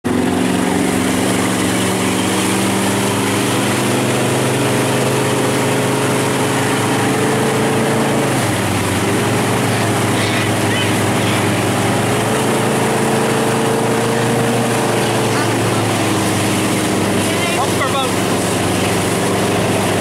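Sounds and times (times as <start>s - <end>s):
churning water: 0.0s - 20.0s
motorboat engine running: 0.0s - 20.0s.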